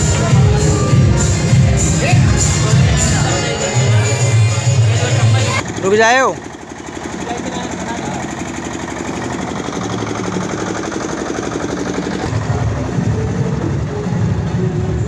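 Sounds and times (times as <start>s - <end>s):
pulsing mechanical engine drone: 0.0s - 15.0s.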